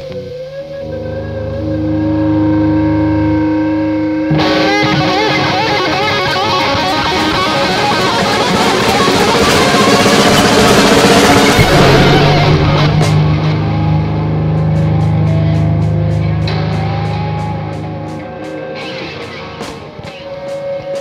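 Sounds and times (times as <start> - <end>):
distorted electric guitar: 0.0 - 21.0
held drone: 0.0 - 21.0.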